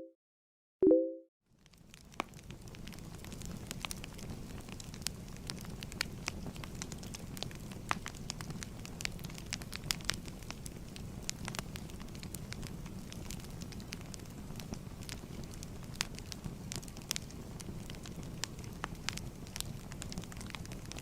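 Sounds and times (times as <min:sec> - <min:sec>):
firewood crackling and popping: 0:01.5 - 0:21.0.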